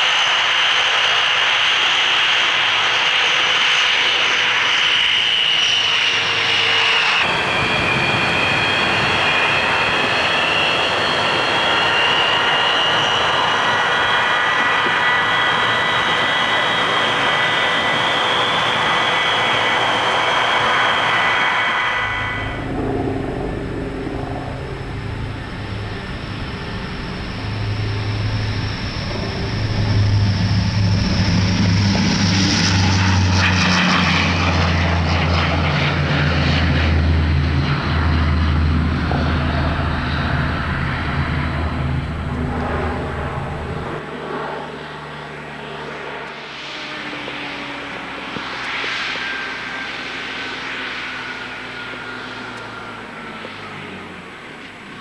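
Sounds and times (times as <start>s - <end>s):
high turbine whine: 0.0s - 55.0s
turboprop engines droning: 0.0s - 55.0s.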